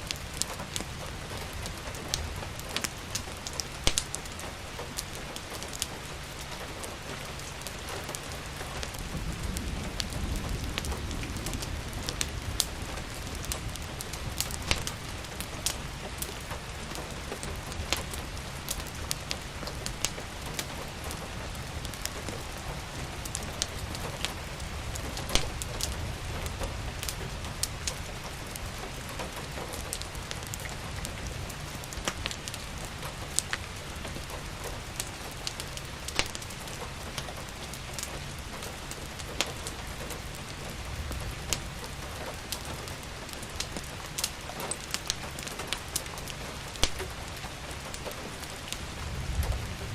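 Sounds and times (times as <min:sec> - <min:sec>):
fireplace crackling: 0:00.0 - 0:49.9
steady rain falling: 0:00.0 - 0:49.9.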